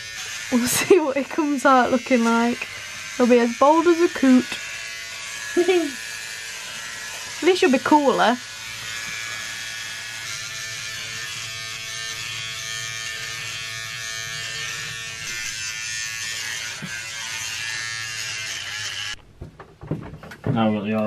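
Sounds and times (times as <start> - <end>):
electric hair clippers buzzing: 0.0 - 19.2.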